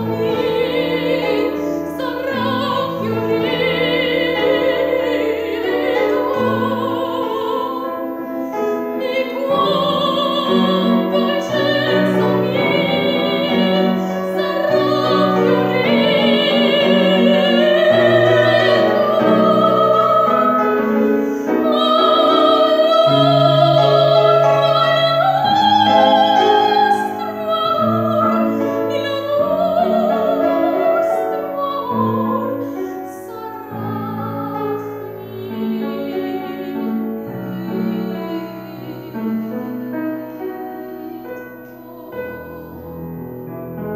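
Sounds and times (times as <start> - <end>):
woman singing operatically: 0.0 - 8.2, 8.8 - 39.9
piano accompaniment: 0.0 - 43.9.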